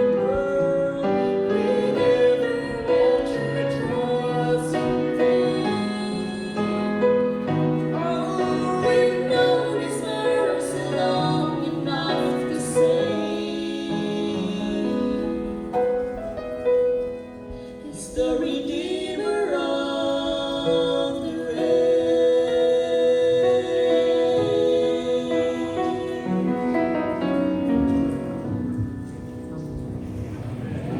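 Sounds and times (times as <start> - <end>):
gospel singing: 0.0 - 30.9
piano accompaniment: 0.0 - 30.9.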